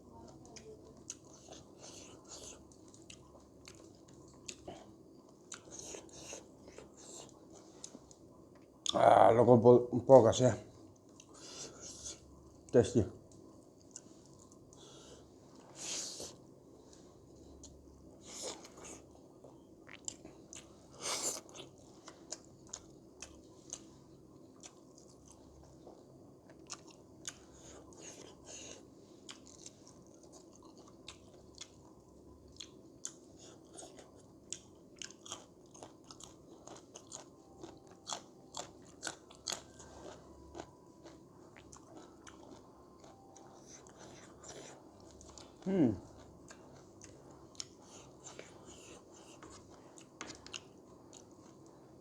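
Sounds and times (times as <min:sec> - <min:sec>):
person chewing food: 0:00.5 - 0:09.0, 0:10.9 - 0:12.3, 0:13.3 - 0:16.4, 0:17.0 - 0:52.0.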